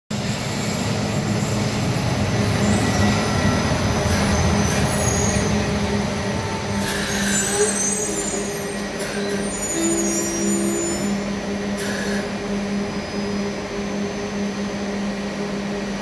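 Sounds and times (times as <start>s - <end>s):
train rumbling on rails: 0.1s - 16.0s.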